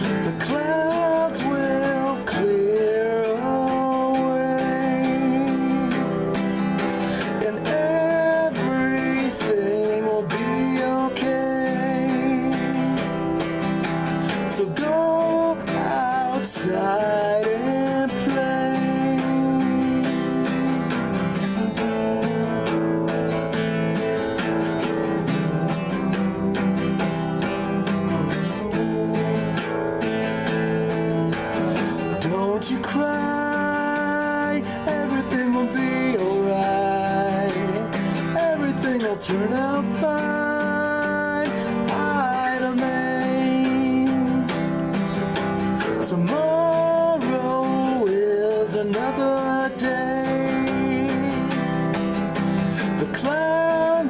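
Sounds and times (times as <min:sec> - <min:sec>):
acoustic guitar strumming: 0:00.0 - 0:54.0
held melody line: 0:00.0 - 0:54.0.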